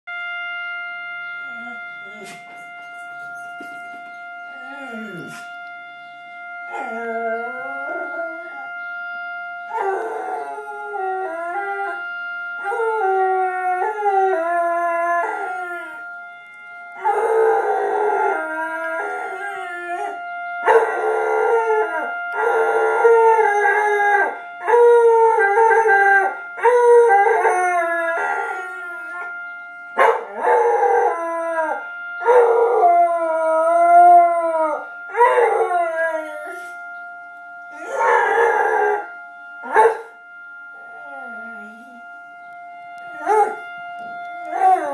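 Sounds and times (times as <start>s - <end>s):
steady siren tone: 0.1s - 44.9s.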